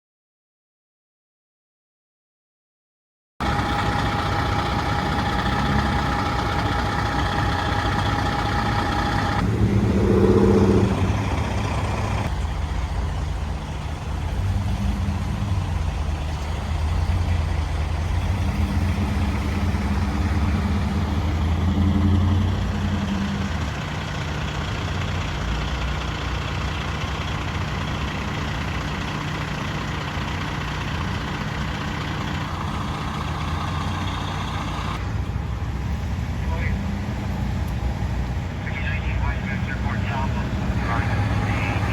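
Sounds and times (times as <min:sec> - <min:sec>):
diesel engine rumbling: 0:03.4 - 0:41.9.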